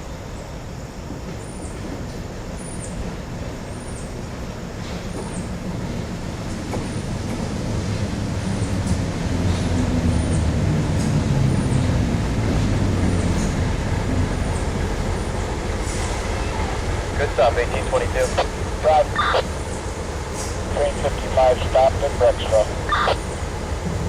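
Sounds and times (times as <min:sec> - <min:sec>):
diesel locomotive engine rumbling: 0:00.0 - 0:24.0.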